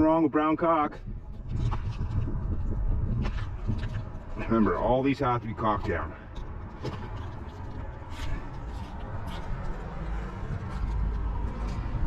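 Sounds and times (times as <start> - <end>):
low rumble: 0.9 - 12.0.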